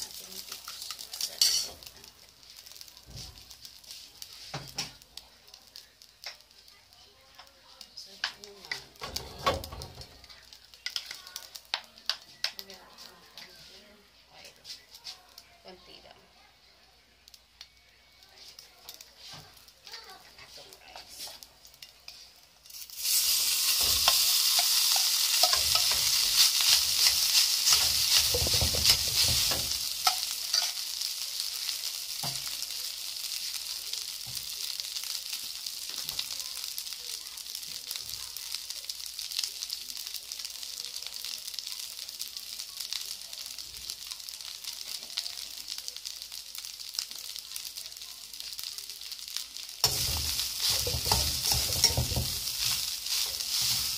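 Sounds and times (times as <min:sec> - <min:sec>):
rice sizzling in hot oil: 0:00.0 - 0:53.9.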